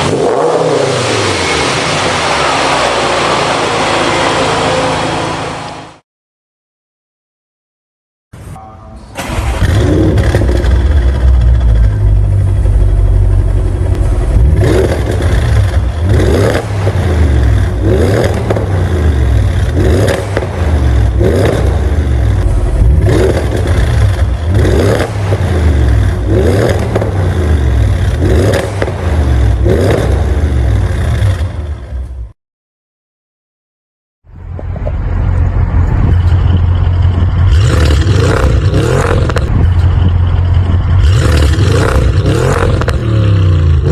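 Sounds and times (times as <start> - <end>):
car engine idling and revving: 0.0 - 6.0, 8.4 - 32.3, 34.2 - 43.9.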